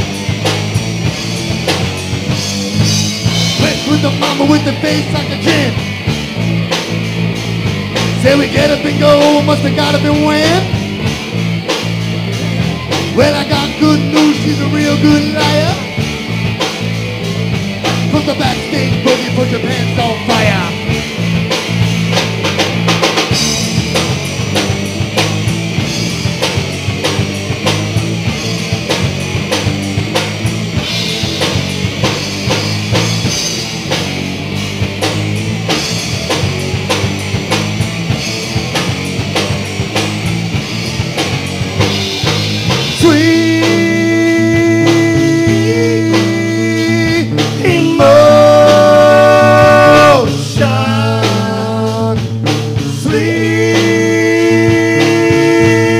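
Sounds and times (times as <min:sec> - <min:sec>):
lead guitar long held notes: 0:00.0 - 0:55.9
rock band playing: 0:00.0 - 0:55.9.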